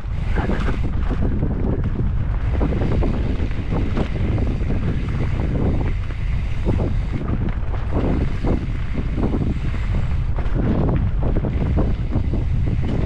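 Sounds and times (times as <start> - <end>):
bike knocks and rattles: 0.0 - 13.0
steady low rumble: 0.0 - 13.0
wind buffeting microphone: 0.0 - 13.0.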